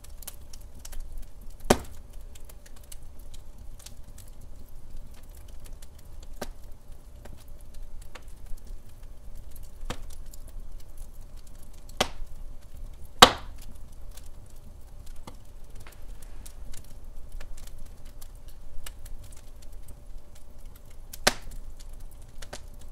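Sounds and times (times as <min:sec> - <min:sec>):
logs crackling and popping: 0:00.0 - 0:22.9
low steady rumble: 0:00.0 - 0:22.9.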